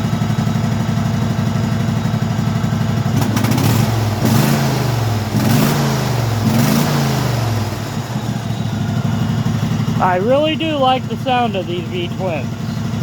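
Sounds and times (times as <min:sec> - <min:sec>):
lawn tractor engine revving: 0:00.0 - 0:13.0.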